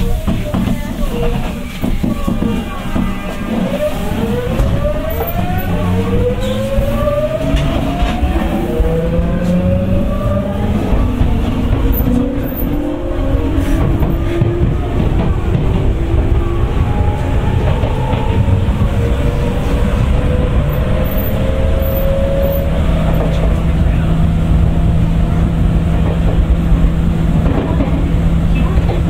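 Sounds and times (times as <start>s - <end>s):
electric train inverter whining: 0.0s - 29.0s
train rumbling on track: 0.0s - 29.0s.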